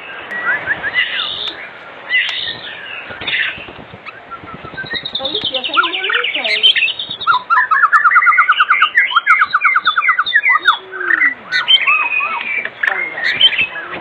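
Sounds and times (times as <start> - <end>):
bird singing: 0.0 - 14.0.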